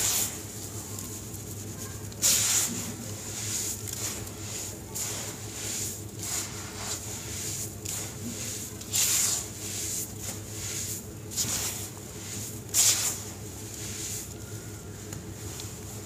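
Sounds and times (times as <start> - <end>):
hands crumbling gritty mix: 0.0 - 16.0.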